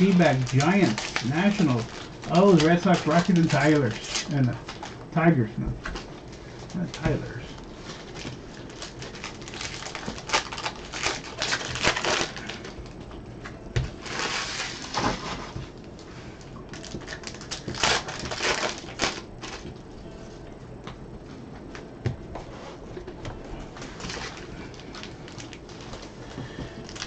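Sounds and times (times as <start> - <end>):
foil wrappers crinkling: 0.0 - 13.1, 13.9 - 16.1, 16.7 - 19.8, 23.0 - 27.0.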